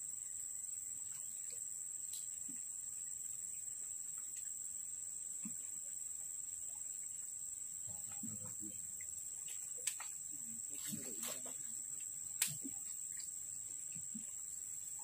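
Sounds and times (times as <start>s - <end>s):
high-pitched insect chorus: 0.0s - 15.0s
faint ticks: 1.0s - 4.6s, 5.4s - 15.0s.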